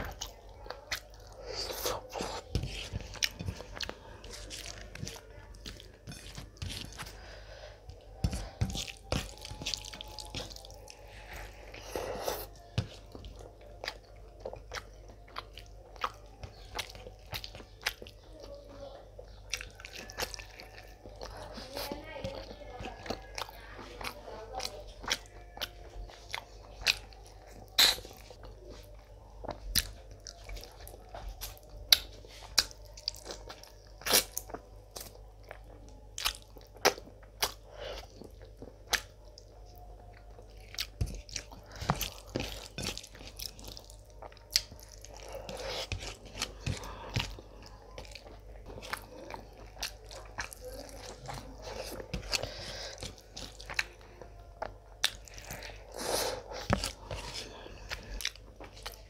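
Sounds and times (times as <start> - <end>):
open-mouthed chewing: 0.0 - 59.0.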